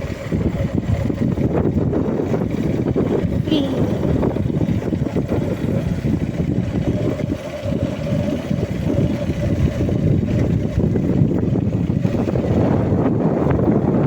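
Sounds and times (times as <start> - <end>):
moving vehicle running noise: 0.0 - 14.0
wind rumble on microphone: 0.0 - 14.0.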